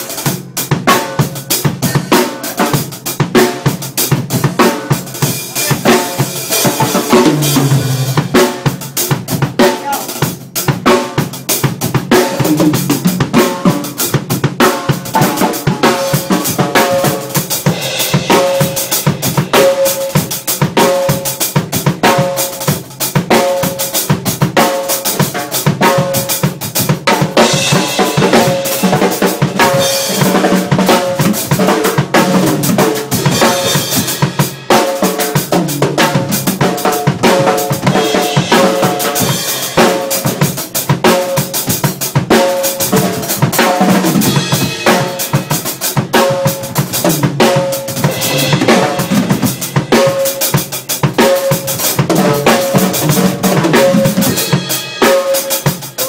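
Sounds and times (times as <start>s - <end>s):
drum kit played fast: 0.0s - 56.0s.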